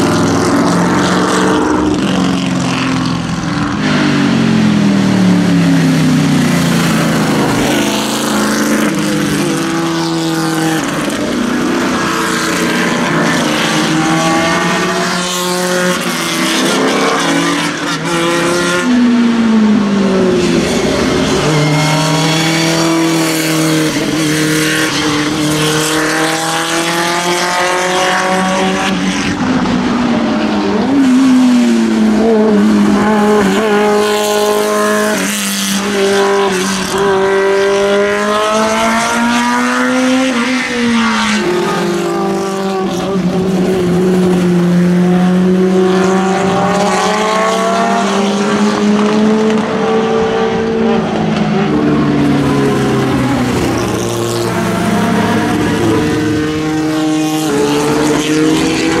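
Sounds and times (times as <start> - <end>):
racing cars driving past: 0.0 - 59.0.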